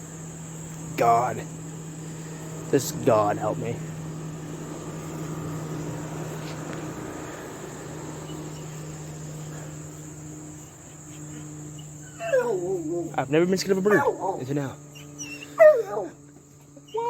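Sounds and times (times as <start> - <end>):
insect drone: 0.0 - 17.0
low steady hum: 0.0 - 17.0.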